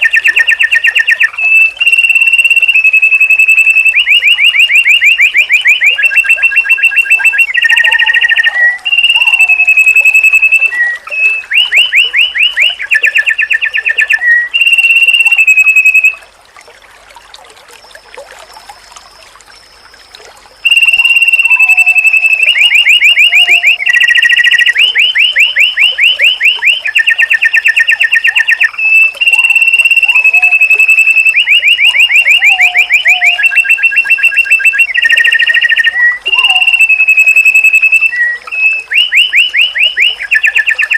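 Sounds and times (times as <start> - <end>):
bird whistling and trilling: 0.0 - 16.3, 19.1 - 40.9.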